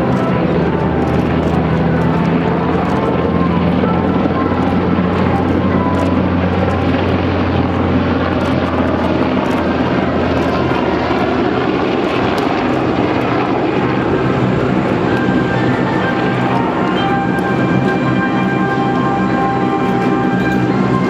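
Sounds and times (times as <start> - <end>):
helicopter in flight: 0.0 - 21.0.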